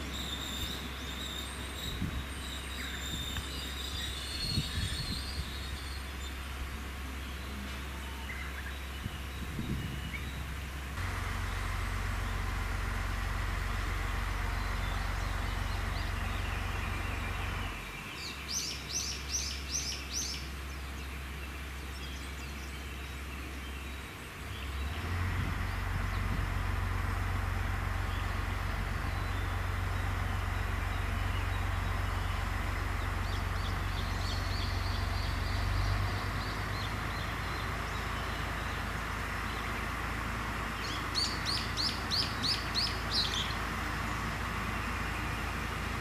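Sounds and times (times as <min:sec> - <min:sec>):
diesel railcar engine running: 0:00.0 - 0:46.0.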